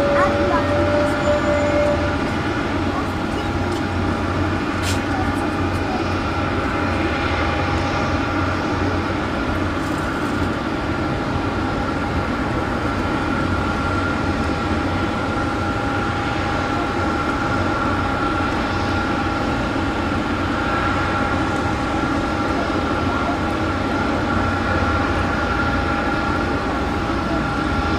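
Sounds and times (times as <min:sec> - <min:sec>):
jet engines running: 0:00.0 - 0:27.9.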